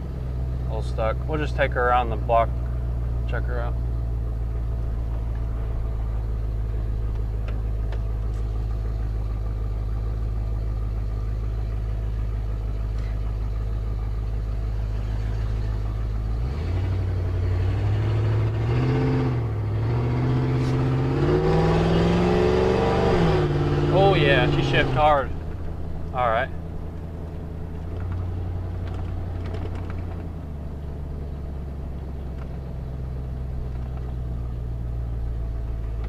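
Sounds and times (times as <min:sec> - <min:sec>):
pickup truck engine idling and revving: 0:00.0 - 0:36.0.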